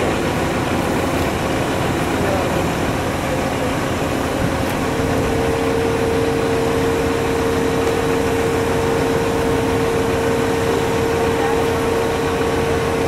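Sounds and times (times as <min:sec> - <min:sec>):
diesel engine running under load: 0:00.0 - 0:13.0
steady mechanical whine: 0:00.0 - 0:13.0.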